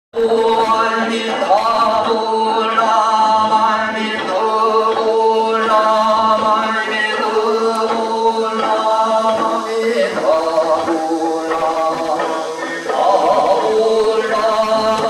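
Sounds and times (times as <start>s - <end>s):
man chanting: 0.2s - 15.0s.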